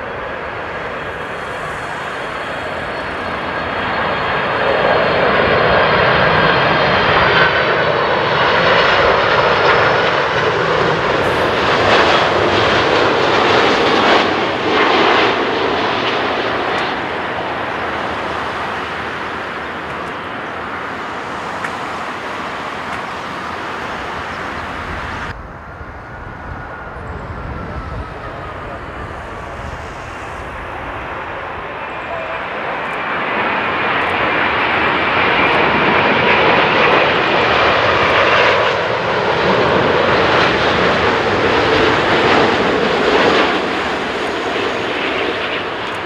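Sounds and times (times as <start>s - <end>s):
high jet engine whine: 0.0s - 46.0s
jet plane roar passing: 0.0s - 46.0s.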